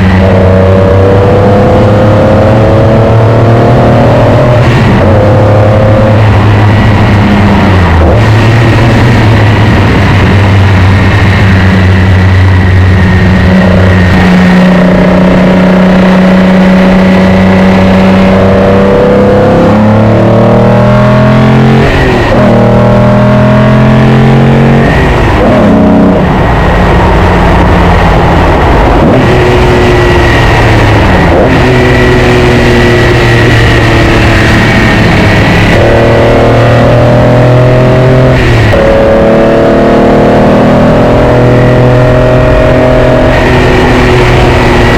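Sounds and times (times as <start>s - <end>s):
car engine running while driving: 0.0s - 44.9s.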